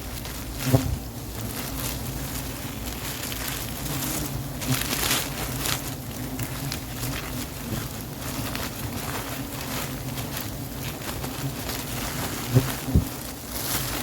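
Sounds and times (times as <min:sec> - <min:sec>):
dry leaves crunching and crackling: 0:00.0 - 0:14.0.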